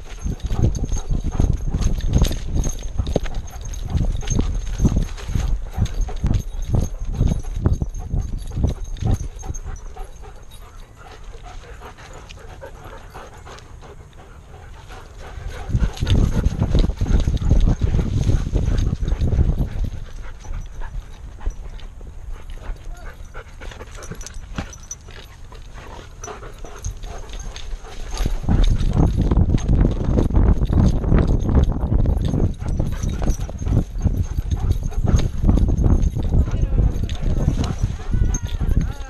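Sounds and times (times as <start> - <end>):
dog panting: 0.0 - 39.0.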